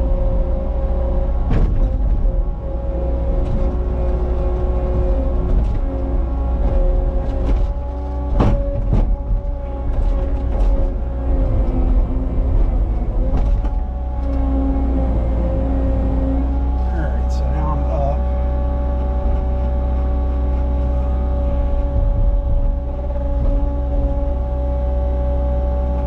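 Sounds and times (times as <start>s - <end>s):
diesel engine running under load: 0.0s - 26.0s.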